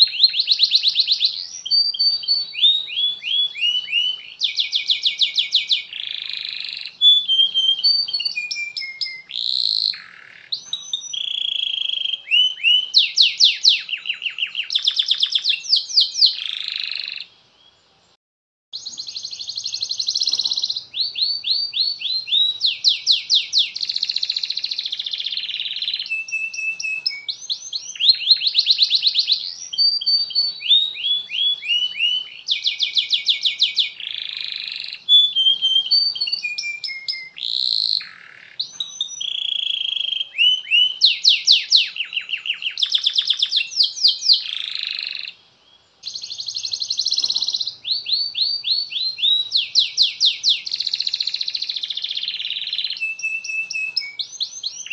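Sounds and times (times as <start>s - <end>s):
canary singing trills: 0.0s - 17.8s, 18.8s - 54.9s.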